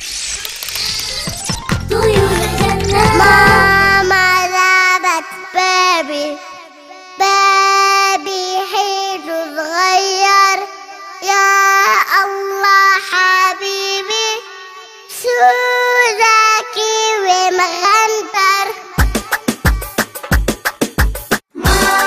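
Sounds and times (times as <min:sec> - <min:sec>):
girl singing: 0:01.9 - 0:19.7.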